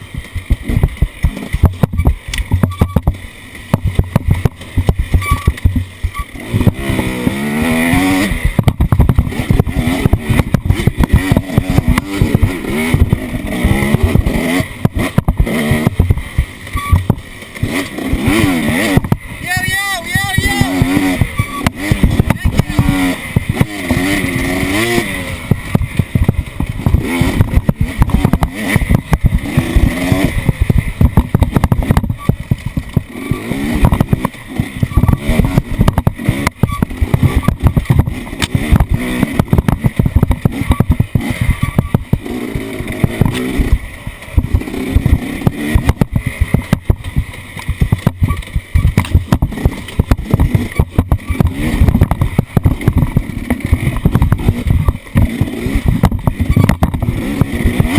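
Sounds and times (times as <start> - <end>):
thumps and rattles: 0.0 - 7.4, 8.4 - 19.3, 20.3 - 57.9
off-road vehicle engine revving: 0.0 - 57.9.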